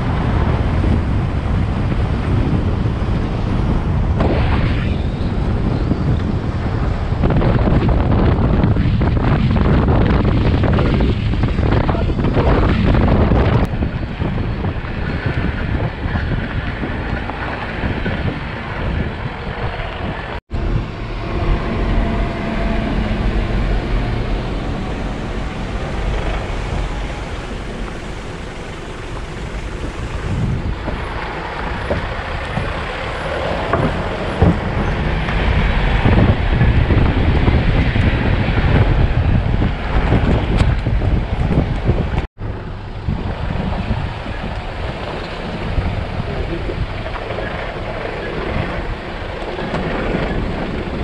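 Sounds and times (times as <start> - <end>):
vehicle engine and road rumble: 0.0 - 51.0.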